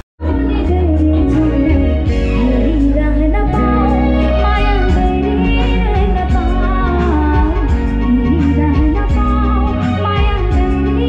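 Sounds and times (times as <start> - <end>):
bass: 0.0 - 11.0
guitar: 0.0 - 11.0
keyboard: 0.0 - 11.0
woman singing into microphone: 0.2 - 11.0.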